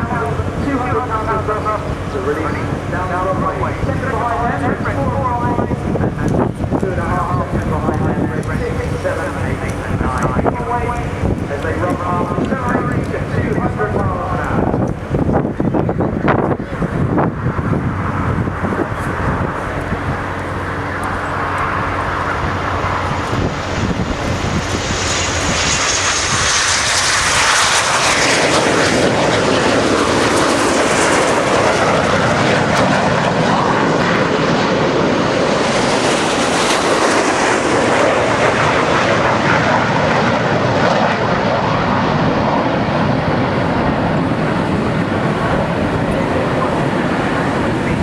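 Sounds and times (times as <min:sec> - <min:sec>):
high jet whine: 0:00.0 - 0:48.0
jet engines roaring: 0:00.0 - 0:48.0.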